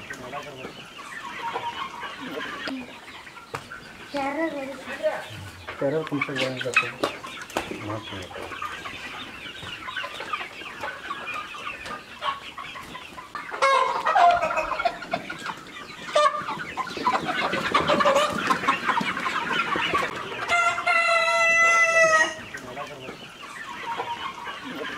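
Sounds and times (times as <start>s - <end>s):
flock of chickens clucking: 0.0s - 24.9s.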